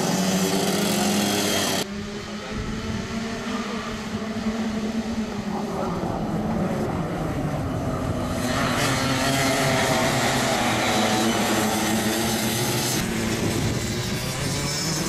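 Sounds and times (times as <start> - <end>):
kart engines buzzing: 0.0 - 15.0.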